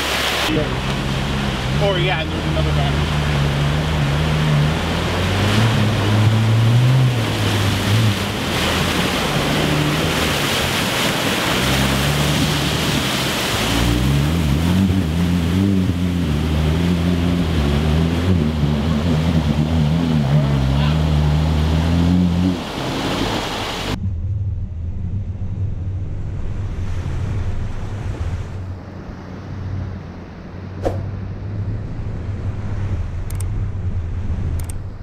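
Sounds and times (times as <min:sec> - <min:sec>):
water rushing and splashing: 0:00.0 - 0:24.0, 0:26.3 - 0:35.0
car engine at low revs: 0:00.5 - 0:35.0.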